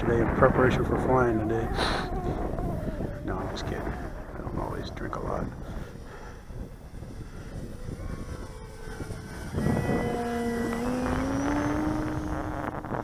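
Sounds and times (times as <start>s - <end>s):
model plane motor whining: 0.5s - 13.0s.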